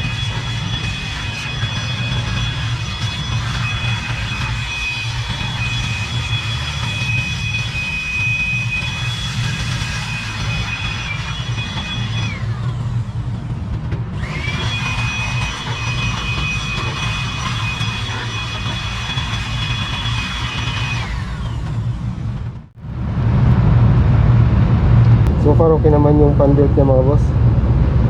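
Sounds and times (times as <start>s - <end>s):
electric blower whining: 0.0s - 23.6s
low hum: 0.0s - 28.0s.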